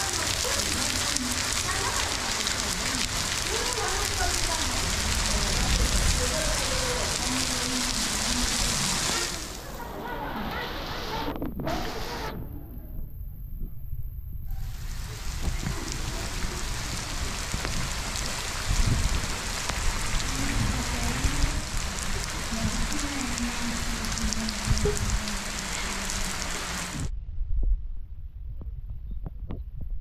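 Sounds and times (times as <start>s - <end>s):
sharp raindrop impacts: 0.0s - 12.5s, 14.5s - 27.1s
heavy rain falling: 0.0s - 12.7s, 14.5s - 27.1s.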